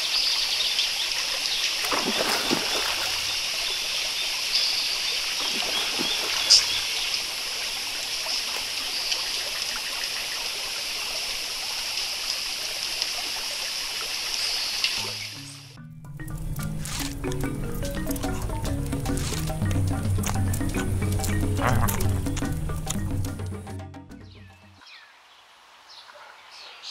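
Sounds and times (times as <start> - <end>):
stream water trickling: 0.0 - 23.7.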